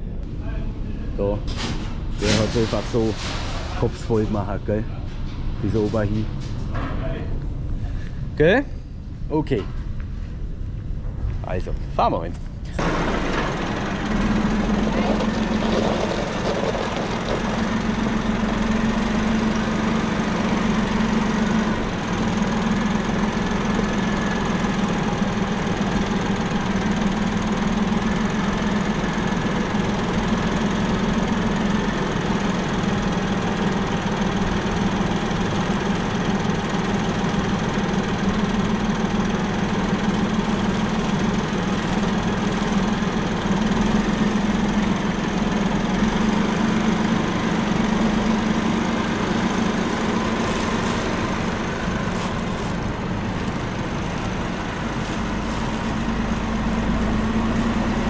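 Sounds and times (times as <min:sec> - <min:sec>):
tractor diesel engine idling: 0:00.6 - 0:04.9, 0:12.8 - 0:58.0.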